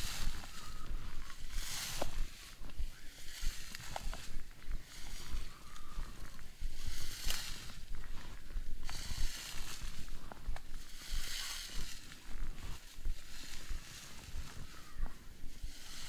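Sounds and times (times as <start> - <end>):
grass rustling swish: 0.0 - 16.0.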